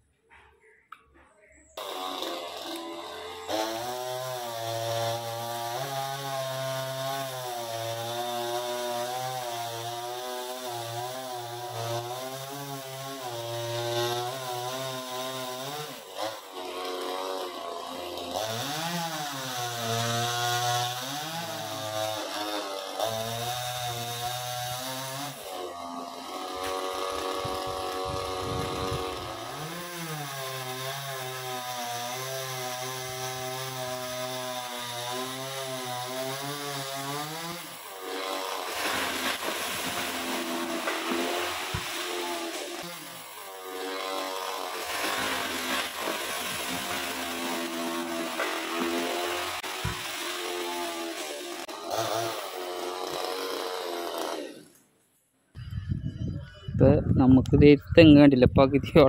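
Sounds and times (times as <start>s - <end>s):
chainsaw cutting wood: 1.8s - 54.9s.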